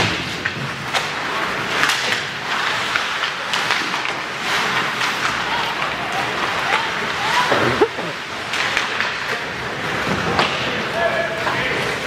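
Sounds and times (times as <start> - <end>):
hockey sticks and puck clacking: 0.0 - 12.0
skates scraping ice: 0.0 - 12.0.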